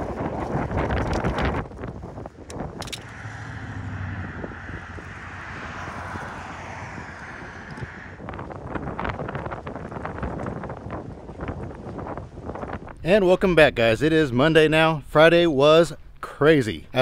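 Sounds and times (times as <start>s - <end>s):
strong wind roaring: 0.0s - 14.9s.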